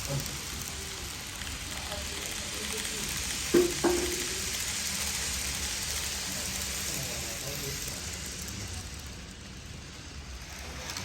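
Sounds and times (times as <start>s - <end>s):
model trains running on track: 0.0s - 11.0s.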